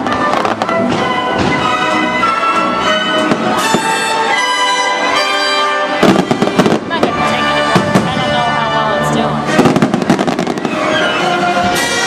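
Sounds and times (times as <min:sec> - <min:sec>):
orchestral music brass and strings: 0:00.0 - 0:12.0.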